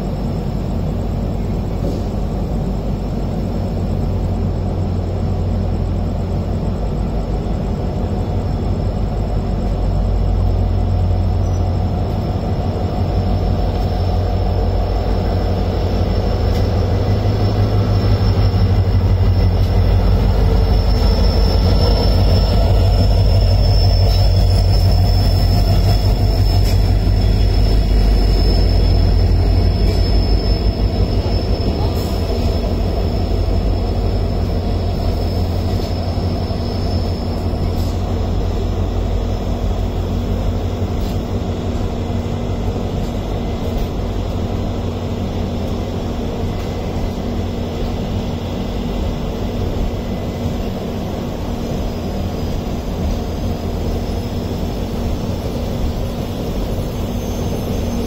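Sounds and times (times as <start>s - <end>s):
train rumbling past: 0.0s - 58.0s
thin high whine: 9.8s - 58.0s.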